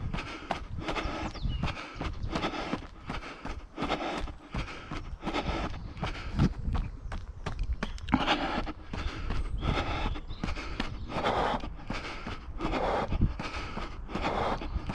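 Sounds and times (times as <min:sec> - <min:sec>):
wind on microphone: 0:00.0 - 0:02.9, 0:03.8 - 0:14.9
hard hissing breaths: 0:00.0 - 0:06.6, 0:08.1 - 0:14.9
footsteps on pavement: 0:00.0 - 0:14.9.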